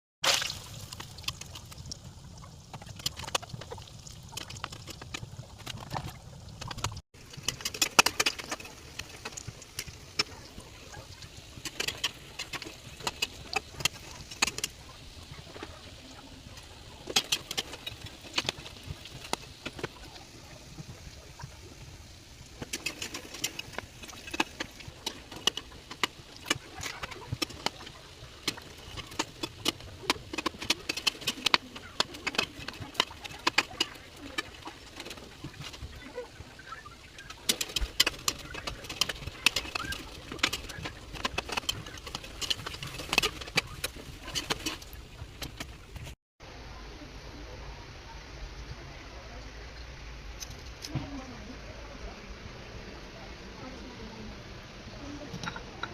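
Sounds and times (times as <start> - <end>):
food frying clicks and pops: 0.2 - 46.2.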